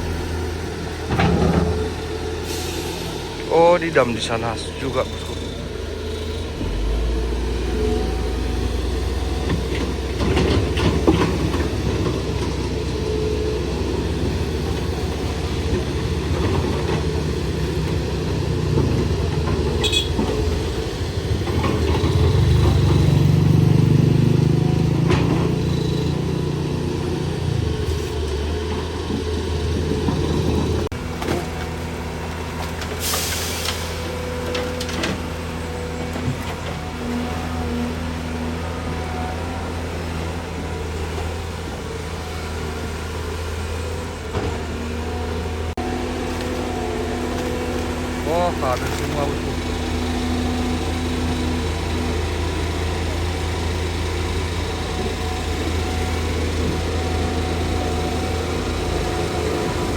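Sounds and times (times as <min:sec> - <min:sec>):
highway traffic: 0:00.0 - 0:59.9
truck engine rumble: 0:00.0 - 0:59.9.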